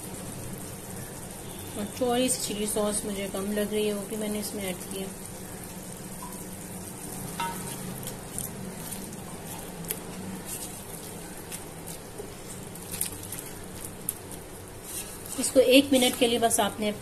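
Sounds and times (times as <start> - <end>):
vegetables sizzling in a pot: 0.0 - 17.0.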